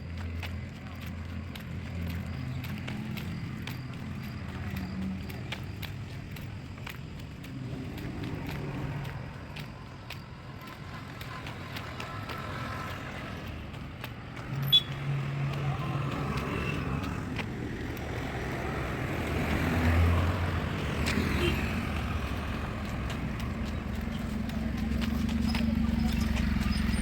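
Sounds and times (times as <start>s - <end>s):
traffic passing: 0.0s - 27.0s
vehicle engines humming: 0.0s - 27.0s.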